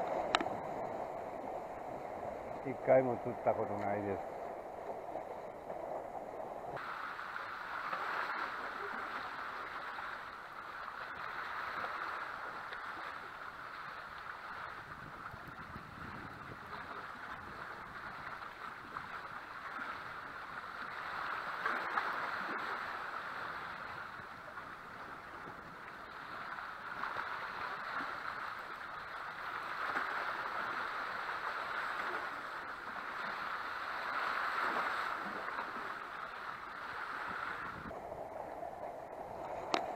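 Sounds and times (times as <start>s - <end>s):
sea waves washing around rocks: 0.0s - 39.9s.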